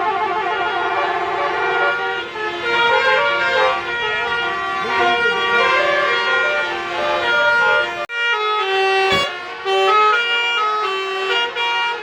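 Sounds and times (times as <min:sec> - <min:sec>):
musical bus horn playing a tune: 0:00.0 - 0:12.0.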